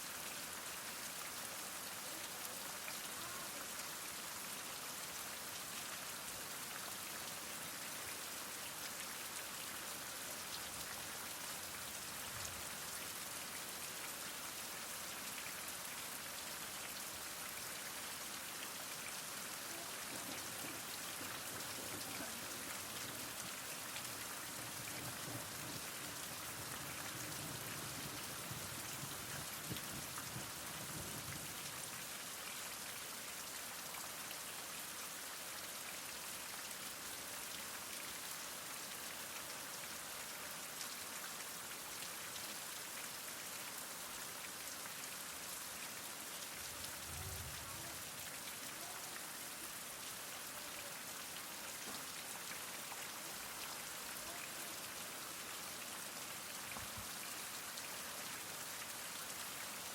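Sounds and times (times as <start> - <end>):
heavy rain falling: 0.4 - 32.8, 44.0 - 59.9.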